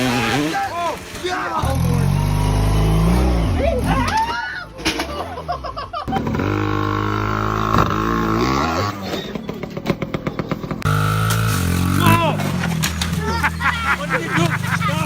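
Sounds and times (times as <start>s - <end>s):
motorcycle engine revving: 0.0s - 4.3s, 5.0s - 15.0s.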